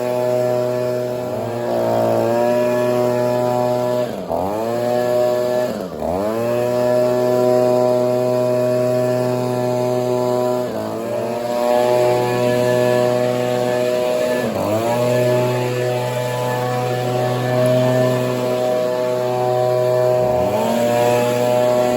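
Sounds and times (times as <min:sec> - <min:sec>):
leaf blower engine revving: 0:00.0 - 0:21.9.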